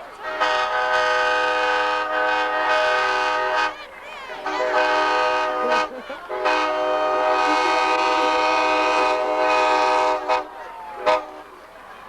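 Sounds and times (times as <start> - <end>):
locomotive air horn blasts: 0.2 - 3.8, 4.4 - 11.5.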